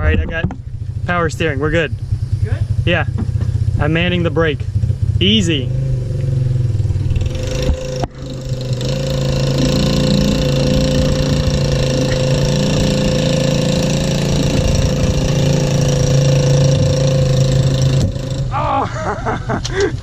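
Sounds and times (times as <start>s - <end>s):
engine idling with rattly hum: 0.0s - 20.0s.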